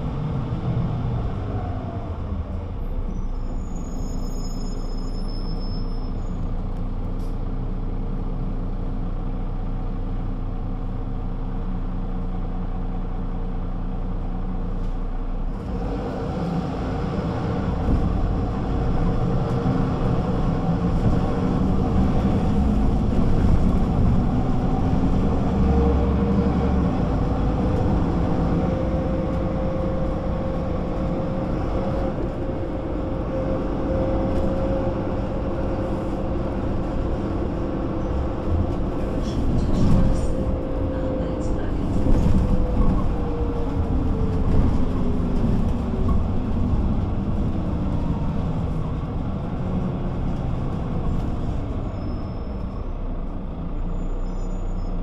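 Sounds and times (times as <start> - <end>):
bus engine idling and accelerating: 0.0 - 55.0.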